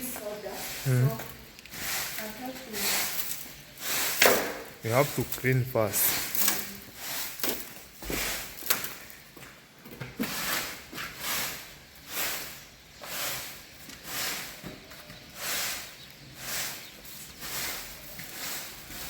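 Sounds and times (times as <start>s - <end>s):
broom sweeping floor: 0.0s - 19.0s.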